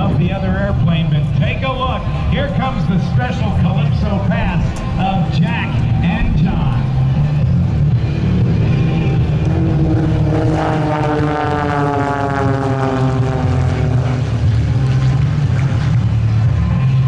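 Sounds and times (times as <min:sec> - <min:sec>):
propeller planes passing: 0:00.0 - 0:17.0
steady low rumble: 0:00.0 - 0:17.0.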